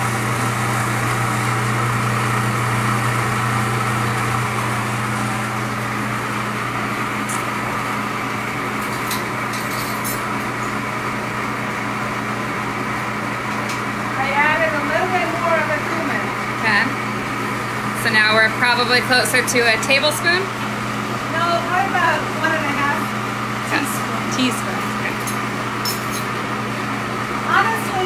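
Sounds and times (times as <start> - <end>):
food processor motor running: 0.0 - 28.0.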